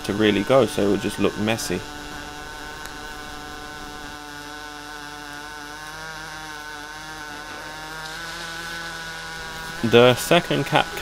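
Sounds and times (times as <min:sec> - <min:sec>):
welding arc humming: 0:00.0 - 0:11.0.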